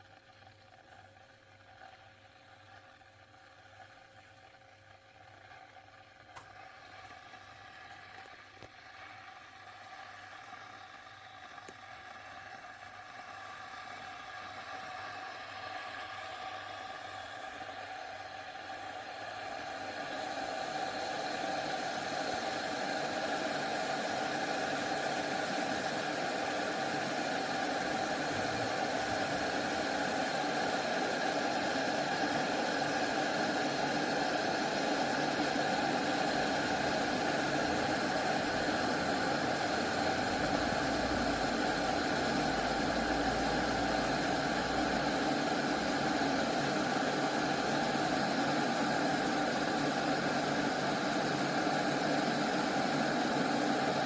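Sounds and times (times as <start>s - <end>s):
electric kettle heating water: 0.0s - 54.0s.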